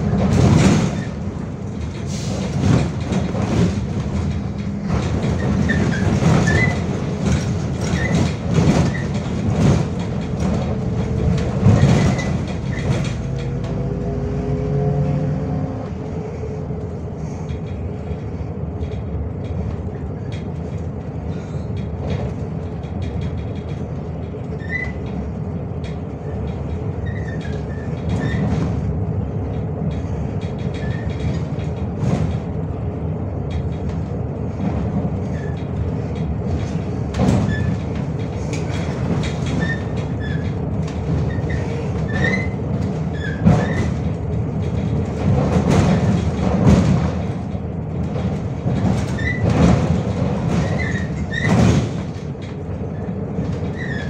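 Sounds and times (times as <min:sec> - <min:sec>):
rattles and knocks from bus body: 0:00.0 - 0:14.6, 0:16.0 - 0:54.0
bus engine and road rumble: 0:00.0 - 0:54.0.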